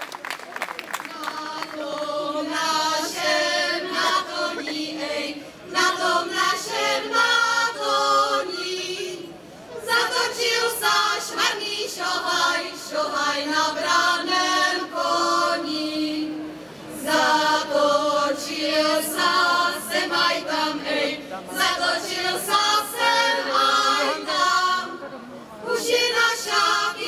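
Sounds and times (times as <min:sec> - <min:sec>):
women's choir singing unaccompanied: 0:01.0 - 0:27.0.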